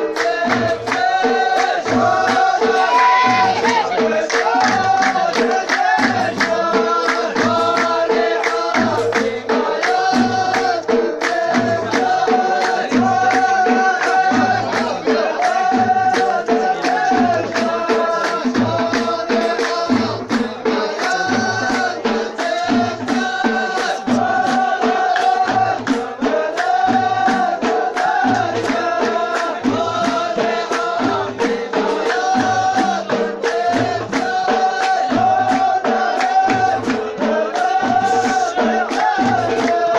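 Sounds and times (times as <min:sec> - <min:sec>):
deep drum beat: 0:00.0 - 0:39.9
group singing in unison: 0:00.0 - 0:39.9
hand percussion: 0:00.0 - 0:39.9.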